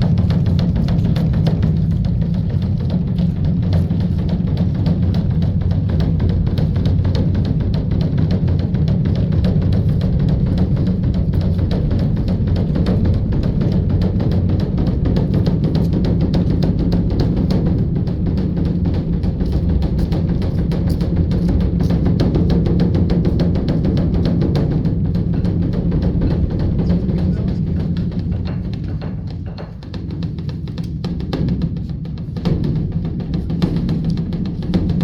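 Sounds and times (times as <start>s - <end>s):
large drum roll: 0.0s - 35.0s.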